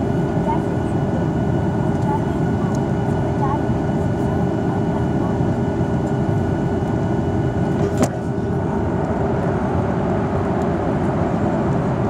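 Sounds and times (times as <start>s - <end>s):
airplane engine and airflow roar: 0.0s - 12.0s
faint steady hums: 0.0s - 12.0s.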